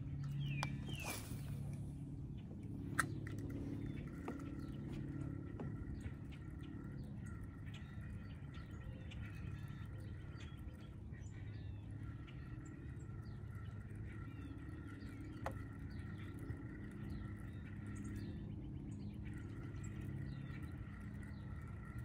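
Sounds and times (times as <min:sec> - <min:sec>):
birds calling: 0:00.0 - 0:22.0
steady low hum: 0:00.0 - 0:22.0.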